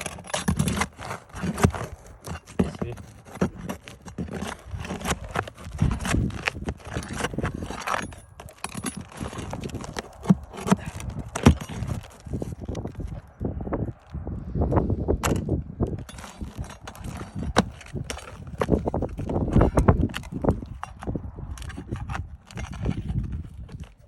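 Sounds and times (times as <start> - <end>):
pry bar knocking and scraping shingles: 0.0 - 13.2, 15.2 - 24.0.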